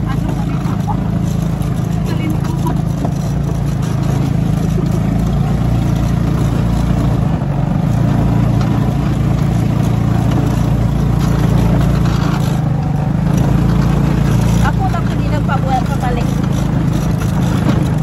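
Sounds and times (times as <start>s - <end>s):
buggy engine droning: 0.0s - 18.0s
quad bike engines: 0.0s - 18.0s.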